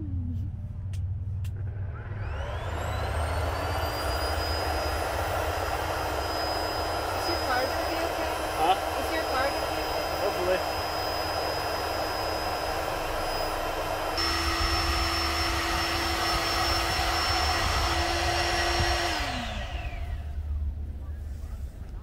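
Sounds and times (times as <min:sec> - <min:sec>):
electric air pump whining: 0:01.5 - 0:20.8.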